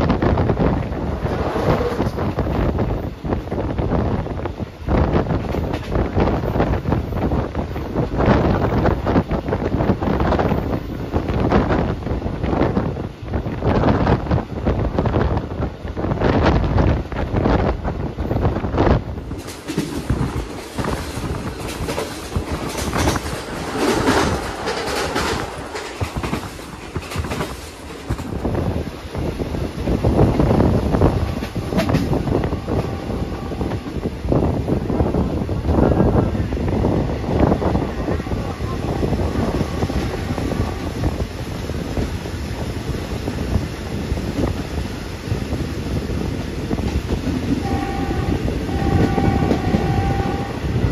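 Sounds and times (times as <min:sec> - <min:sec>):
train rushing rumble: 0:00.0 - 0:50.9
train wheels clattering on rails: 0:00.0 - 0:50.9
wind buffeting microphone: 0:00.0 - 0:50.9.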